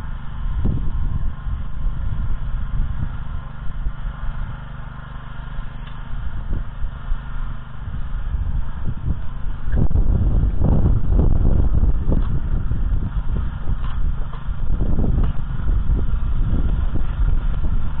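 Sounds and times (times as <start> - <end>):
walk-behind tractor engine tilling: 0.0 - 18.0.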